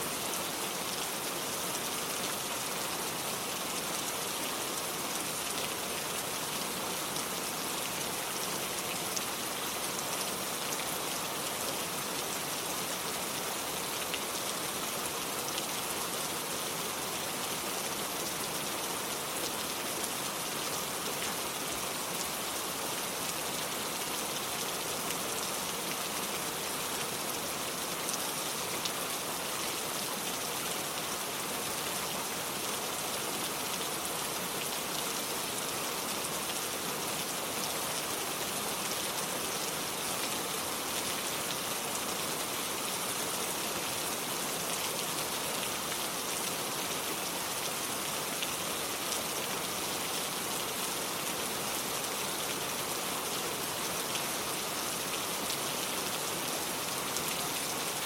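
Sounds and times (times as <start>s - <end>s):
rain on hard surfaces: 0.0s - 58.0s.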